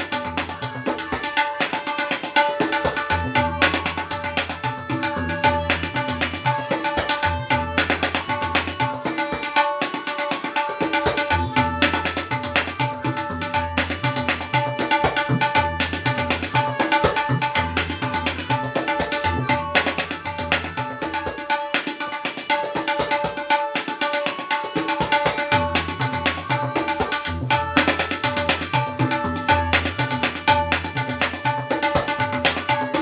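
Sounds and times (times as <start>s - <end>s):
tabla solo: 0.0s - 33.0s.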